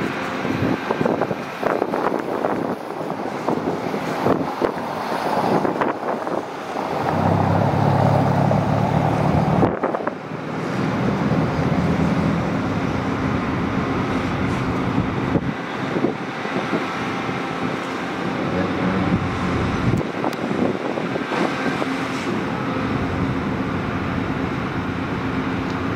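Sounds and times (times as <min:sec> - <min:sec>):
excavator diesel engine labouring: 0:00.0 - 0:25.9.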